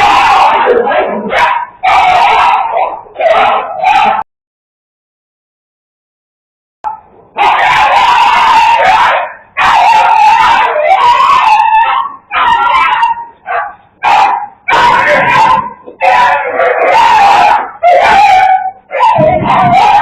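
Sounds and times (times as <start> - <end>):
dogs snarling and barking: 0.0 - 4.2, 6.9 - 20.0.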